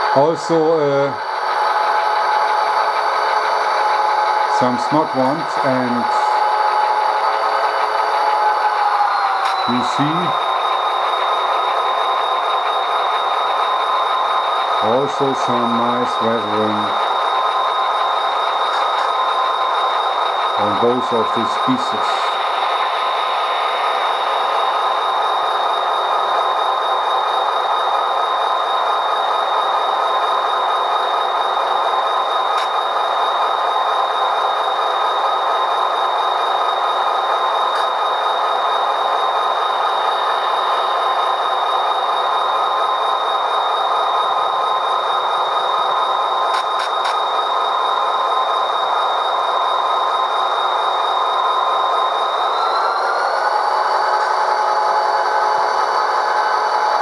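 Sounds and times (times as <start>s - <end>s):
diesel engine sound through small speaker: 0.0s - 48.6s
faint high whine: 0.0s - 57.0s.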